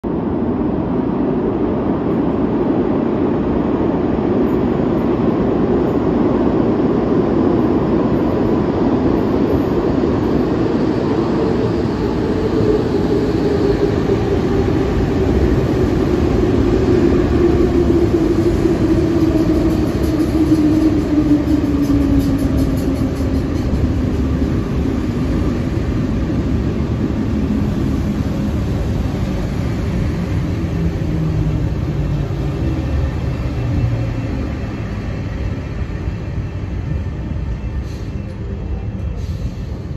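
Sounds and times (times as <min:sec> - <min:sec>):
train rumbling and braking: 0:00.0 - 0:39.9.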